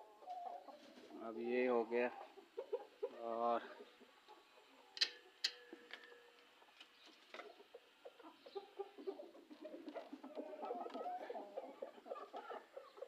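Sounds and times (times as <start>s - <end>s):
chickens clucking softly: 0.0s - 13.0s.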